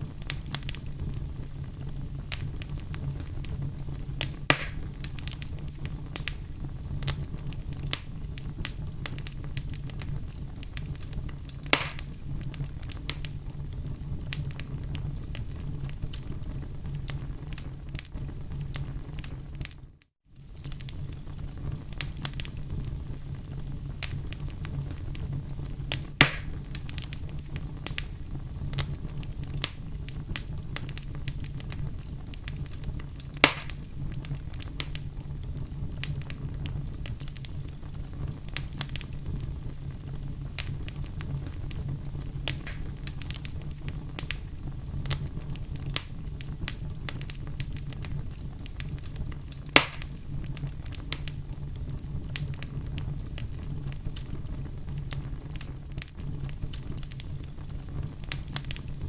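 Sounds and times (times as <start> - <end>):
campfire crackling: 0.0 - 59.0
loud fire pops: 0.0 - 59.0.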